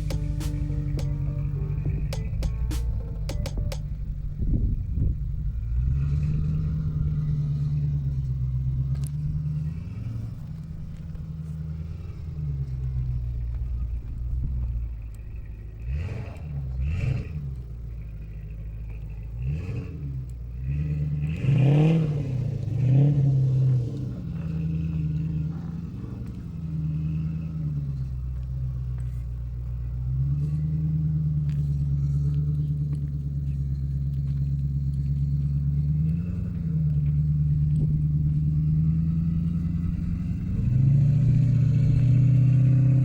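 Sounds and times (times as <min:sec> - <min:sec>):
engine revving: 0:00.0 - 0:13.8, 0:15.1 - 0:43.0.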